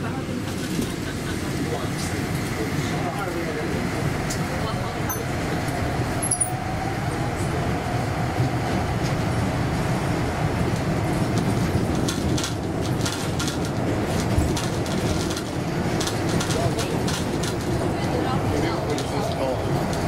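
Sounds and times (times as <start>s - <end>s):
train rumbling from inside: 0.0s - 20.0s.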